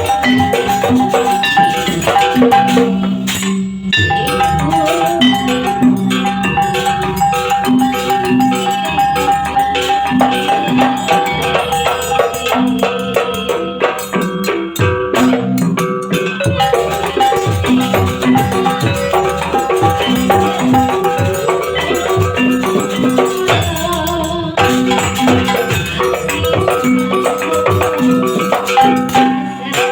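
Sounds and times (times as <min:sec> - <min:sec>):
metallophone melody: 0:00.0 - 0:29.9
rattling percussion: 0:00.0 - 0:29.9.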